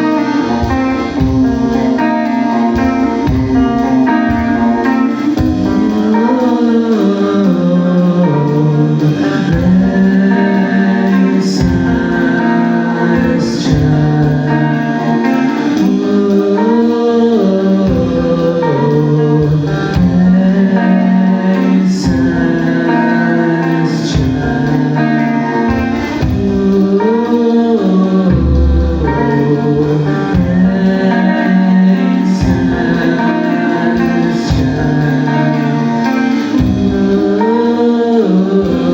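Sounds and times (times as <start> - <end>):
person singing: 0.0 - 38.9
rock band playing live: 0.0 - 38.9.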